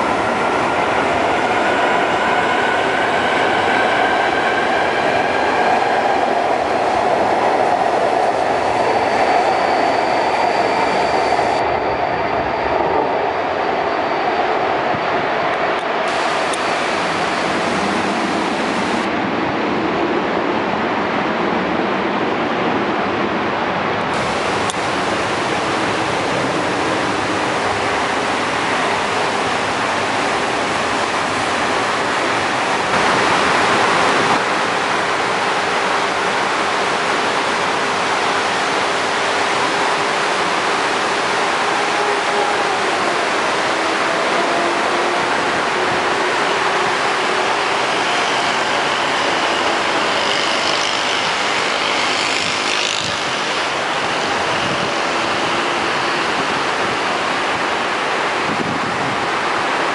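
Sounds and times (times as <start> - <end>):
outdoor rushing noise: 0.0 - 59.9.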